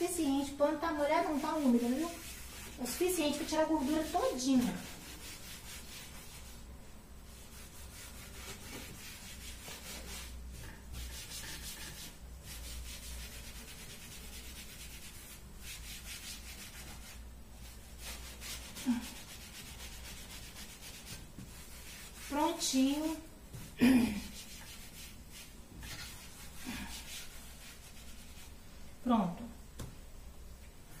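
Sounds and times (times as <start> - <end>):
wet cloth scrubbing surface: 0.6 - 6.6, 7.3 - 28.6.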